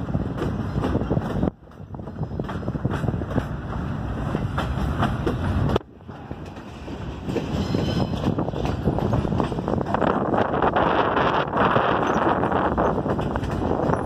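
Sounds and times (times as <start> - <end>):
train cars rolling by: 0.0 - 14.0
wheels clicking over rail joints: 0.0 - 14.0
wind on microphone: 0.0 - 14.0.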